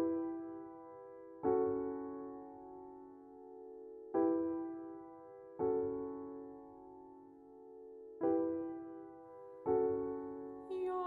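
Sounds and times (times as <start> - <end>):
piano chords ringing: 0.0 - 11.0.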